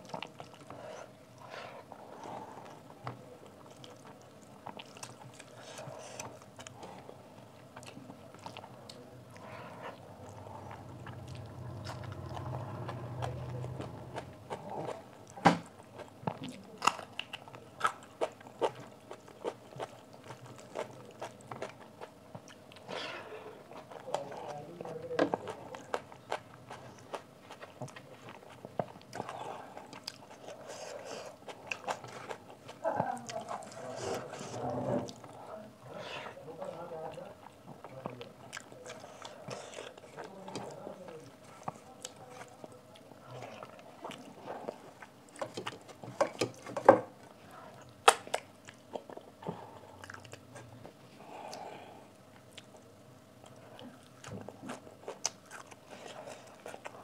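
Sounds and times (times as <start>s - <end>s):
chewing with lip smacks: 0.0s - 22.9s, 23.6s - 34.3s, 36.5s - 57.0s.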